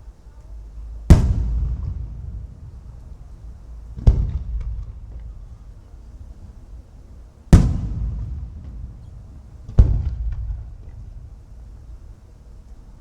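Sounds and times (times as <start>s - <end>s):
firework shells bursting with echo: 0.5s - 12.1s.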